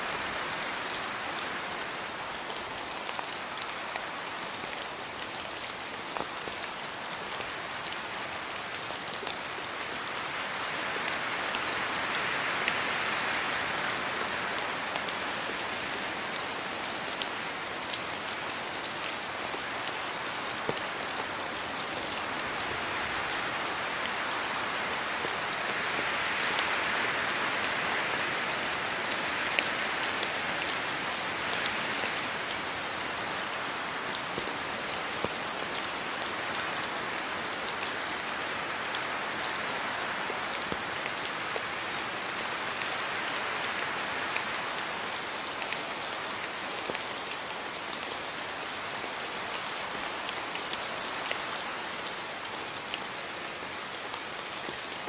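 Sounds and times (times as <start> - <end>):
rain pattering on hard surfaces: 0.0 - 55.0.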